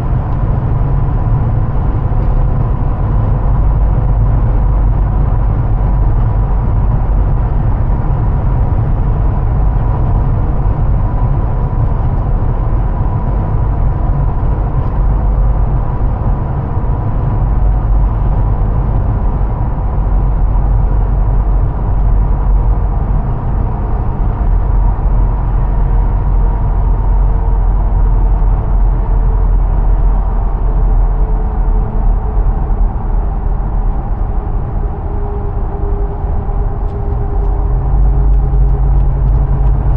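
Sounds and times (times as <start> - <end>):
engine and road rumble: 0.0 - 39.9
steady whine: 0.0 - 39.9.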